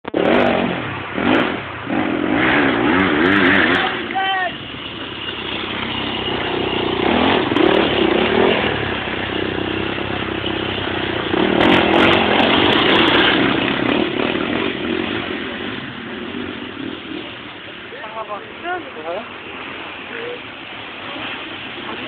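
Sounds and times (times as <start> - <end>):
dirt bike engines revving past: 0.1 - 22.0.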